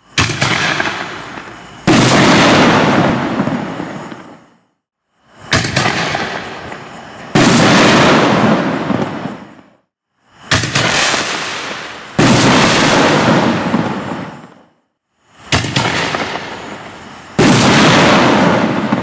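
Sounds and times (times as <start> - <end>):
firework launch bang: 0.2 - 4.4, 5.4 - 9.8, 10.4 - 14.6, 15.4 - 16.8, 17.4 - 19.0.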